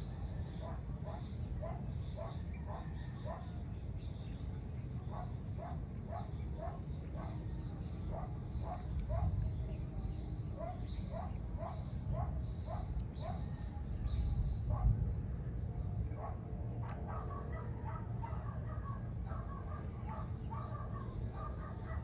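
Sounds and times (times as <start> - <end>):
faint high insect drone: 0.0 - 22.0.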